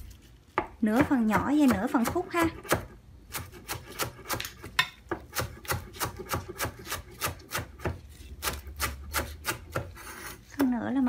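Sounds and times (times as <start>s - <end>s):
knife chopping on cutting board: 0.5s - 10.7s.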